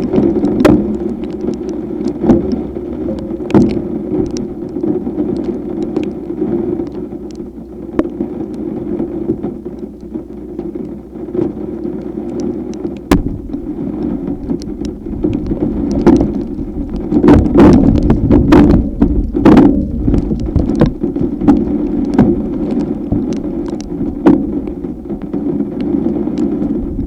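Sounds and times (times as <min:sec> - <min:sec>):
rain: 0:00.0 - 0:27.0
raindrops tapping near microphone: 0:00.0 - 0:27.0
steady rumble: 0:00.0 - 0:27.0
wind: 0:00.0 - 0:27.0.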